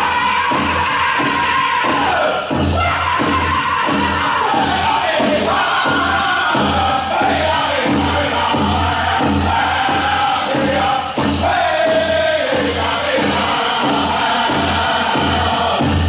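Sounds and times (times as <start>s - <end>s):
big drum steady beat: 0.0s - 16.0s
group singing in high unison: 0.0s - 16.0s.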